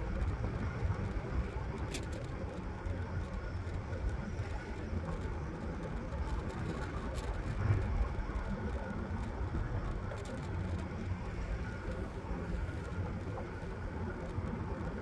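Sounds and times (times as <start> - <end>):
electric scooter rolling on asphalt: 0.0 - 15.0.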